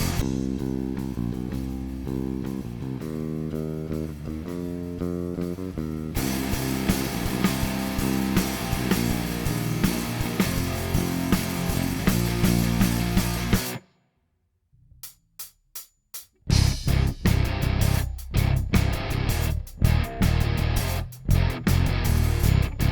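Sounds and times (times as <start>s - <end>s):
electric bass playing: 0.0s - 13.8s, 16.5s - 22.9s.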